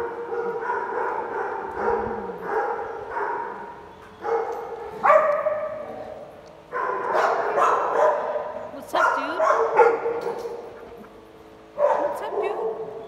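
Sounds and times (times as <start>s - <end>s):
dog barking: 0.0s - 6.0s, 6.7s - 10.7s, 11.8s - 13.0s.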